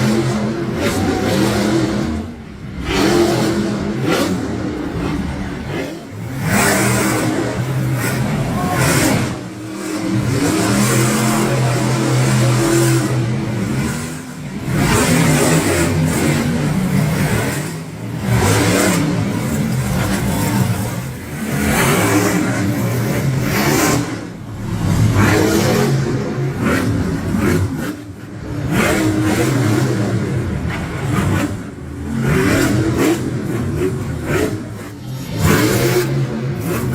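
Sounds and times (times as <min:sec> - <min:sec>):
monster truck engine revving: 0:00.0 - 0:36.9.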